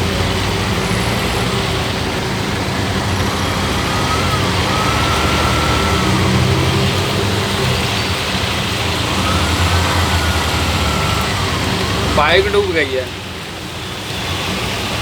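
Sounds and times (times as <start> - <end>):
vehicle engines in traffic: 0.0 - 15.0.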